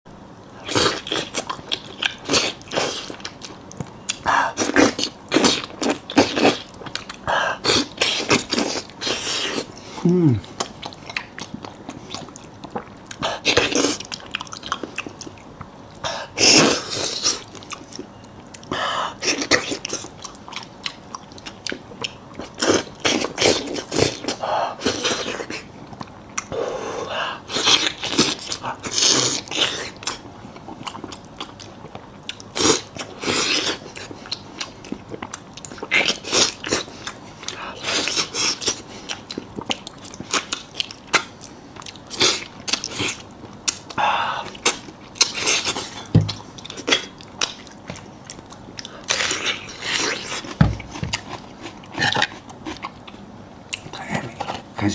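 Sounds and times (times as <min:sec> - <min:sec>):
person chewing meat: 0:00.6 - 0:54.7.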